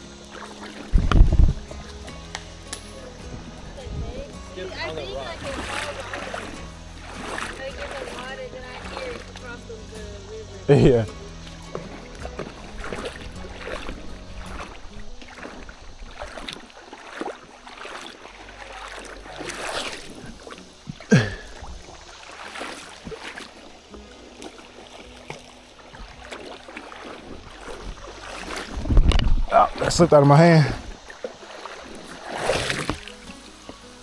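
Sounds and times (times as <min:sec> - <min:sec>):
river water splashing and lapping: 0:00.0 - 0:34.0.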